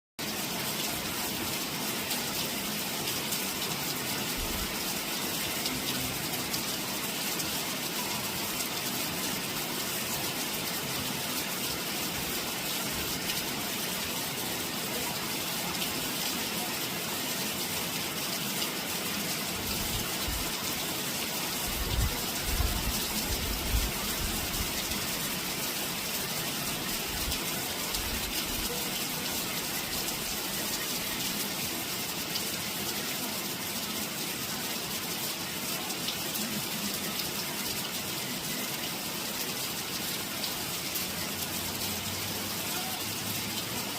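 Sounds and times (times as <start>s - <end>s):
steady rain hiss: 0.2s - 43.9s.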